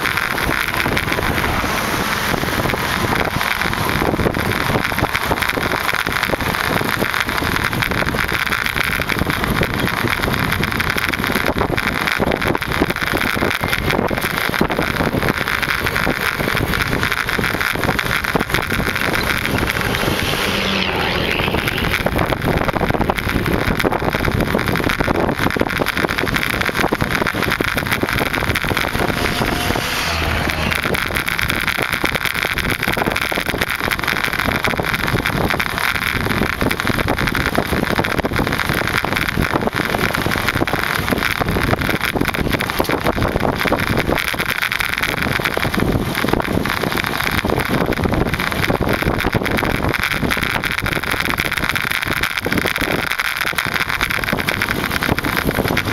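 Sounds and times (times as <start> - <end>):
road noise: 0.0 - 55.9
wind buffeting microphone: 0.0 - 55.9.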